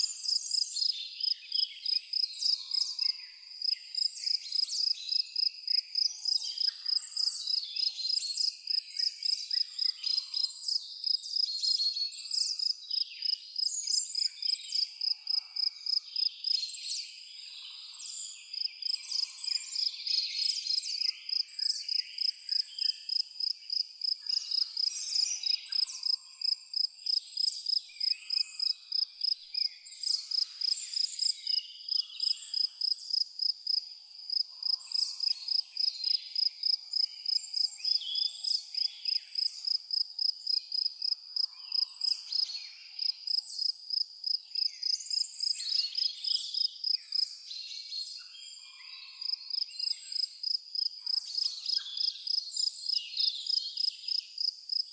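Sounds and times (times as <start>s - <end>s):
cricket chirping: 0.0s - 54.9s.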